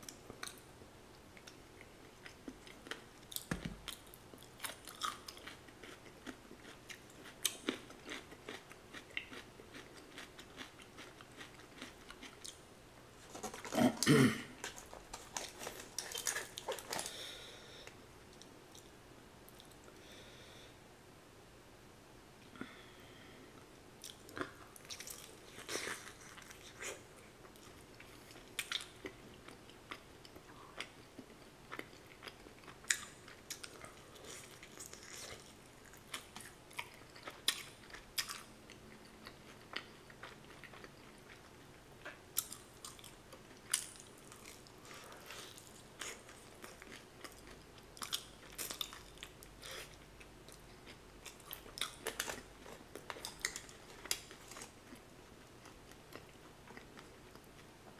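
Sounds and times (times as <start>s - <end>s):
crunchy chewing of fried chicken: 1.3s - 12.6s, 13.2s - 17.6s, 24.0s - 57.9s.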